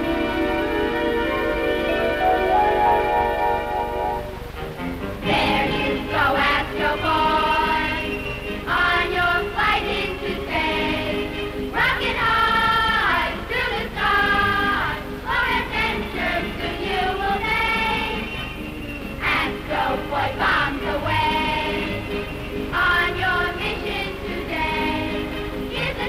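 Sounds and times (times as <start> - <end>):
chorus singing: 0.0 - 4.6, 5.2 - 26.0
orchestral accompaniment: 0.0 - 11.8, 14.8 - 26.0.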